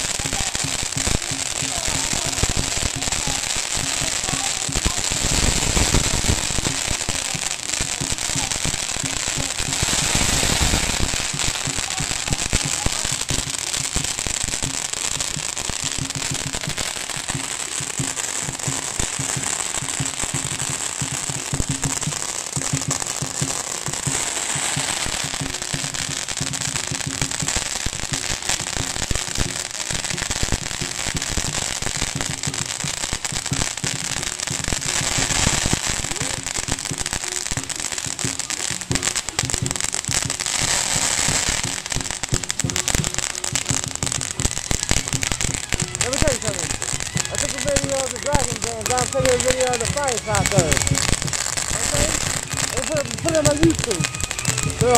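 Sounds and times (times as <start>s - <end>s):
firecrackers crackling: 0.0s - 54.9s.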